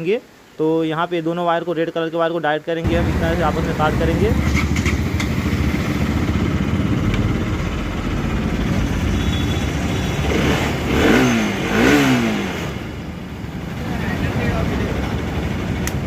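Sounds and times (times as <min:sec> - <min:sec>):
motorcycle engine idling and revving: 0:02.9 - 0:16.0.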